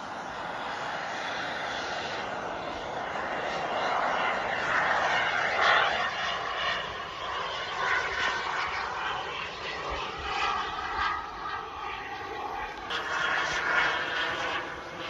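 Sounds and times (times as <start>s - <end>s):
model jet turbine rushing: 0.0s - 15.0s.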